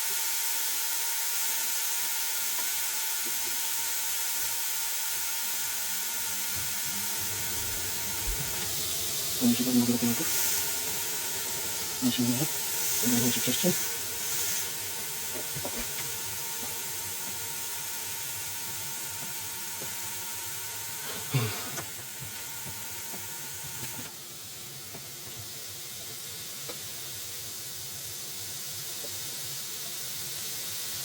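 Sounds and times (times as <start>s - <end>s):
chicken sizzling: 0.0s - 31.0s.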